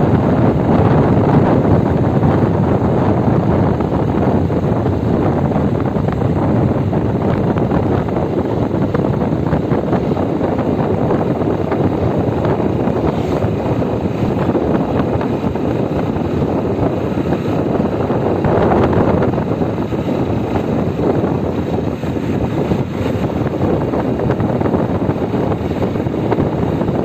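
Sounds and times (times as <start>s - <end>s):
tyre and road noise: 0.0s - 27.0s
wind buffeting microphone: 0.0s - 27.0s.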